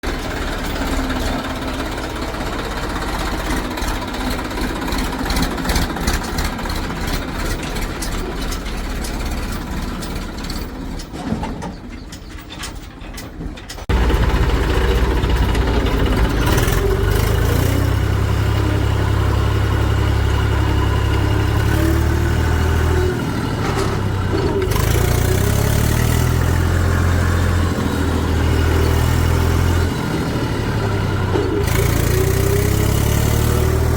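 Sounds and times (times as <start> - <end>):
diesel engines running: 0.0 - 33.9.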